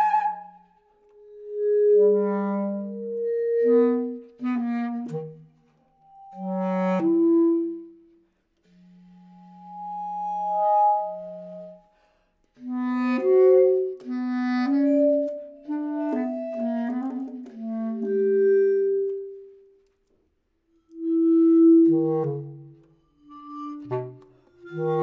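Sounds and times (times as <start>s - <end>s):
bass clarinet: 0.0s - 11.9s, 12.6s - 19.7s, 20.8s - 25.0s.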